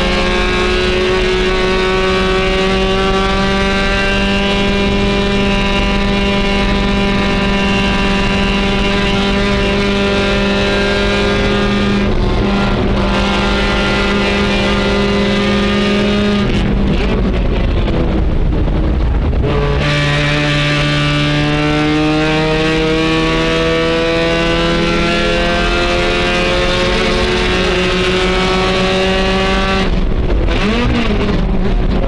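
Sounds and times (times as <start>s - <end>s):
race car engine at high revs: 0.0s - 32.0s.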